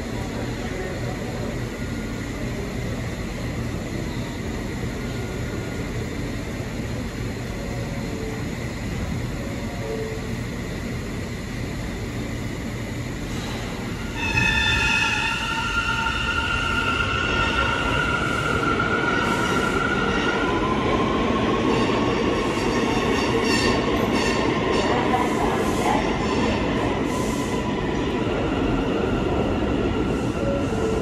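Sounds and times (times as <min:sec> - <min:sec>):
subway train rumble and rail noise: 0:00.0 - 0:31.0.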